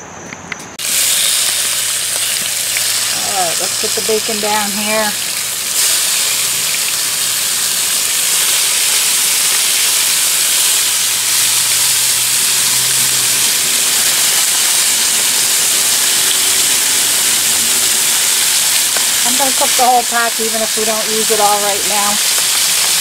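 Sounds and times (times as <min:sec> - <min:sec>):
bacon sizzling on a griddle: 0:00.8 - 0:23.0.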